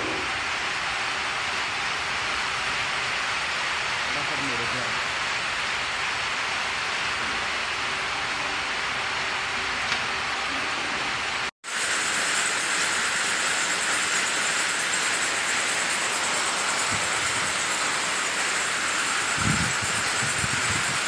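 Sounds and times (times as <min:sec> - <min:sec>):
machinery hissing and whirring: 0:00.0 - 0:21.0.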